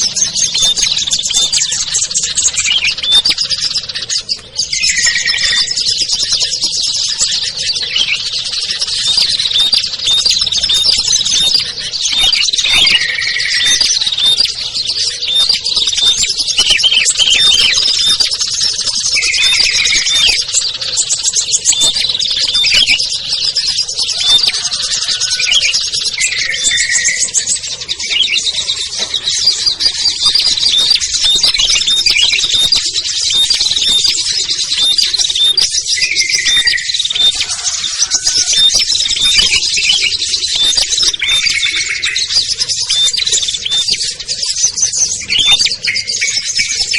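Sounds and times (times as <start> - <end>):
lower bird warbling: 0.0 - 46.9
songbirds chirping and trilling: 0.0 - 46.9.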